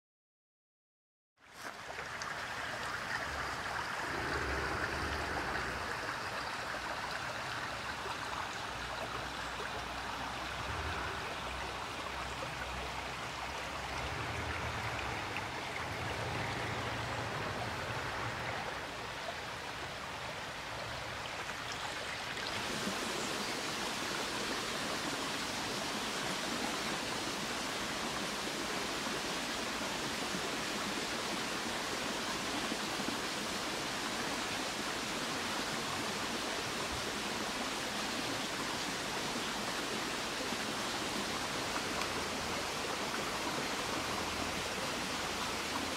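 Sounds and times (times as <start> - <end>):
rushing forest ambience: 1.4 - 45.9.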